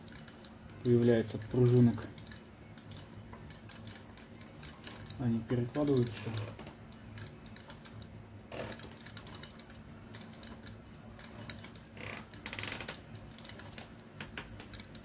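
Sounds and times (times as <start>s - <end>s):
metallic springs clicking and rattling: 0.0s - 15.0s.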